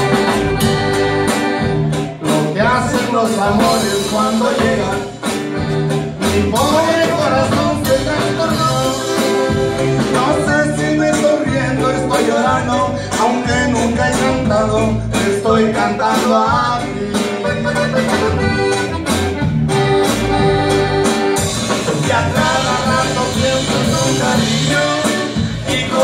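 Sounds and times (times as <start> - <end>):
electric bass: 0.0 - 26.0
live band playing: 0.0 - 26.0.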